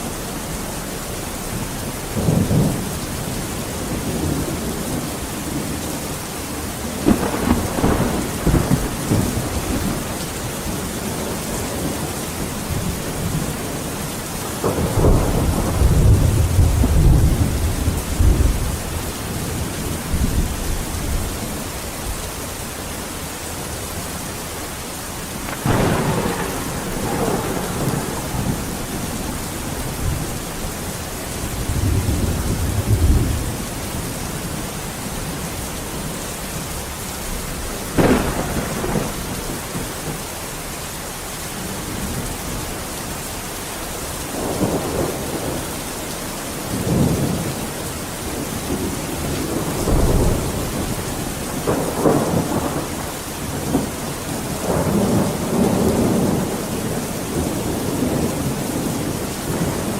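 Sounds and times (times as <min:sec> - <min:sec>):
heavy rain: 0:00.0 - 0:59.9
thunder rumbling: 0:01.5 - 0:22.2, 0:25.0 - 0:42.7, 0:44.3 - 0:45.7, 0:46.6 - 0:59.9.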